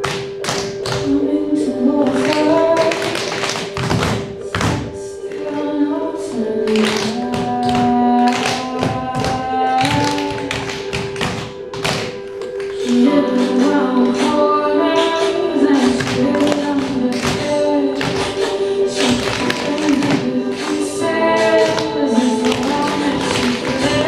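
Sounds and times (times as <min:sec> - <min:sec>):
tap shoes clicking on stage floor: 0:00.0 - 0:01.1, 0:02.1 - 0:05.5, 0:06.7 - 0:14.3, 0:15.8 - 0:24.0
recorded music with sung melody: 0:00.0 - 0:24.0.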